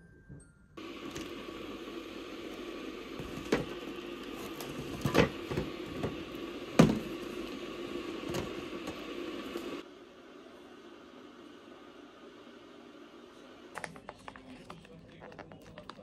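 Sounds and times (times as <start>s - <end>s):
room noise hum: 0.8s - 16.0s.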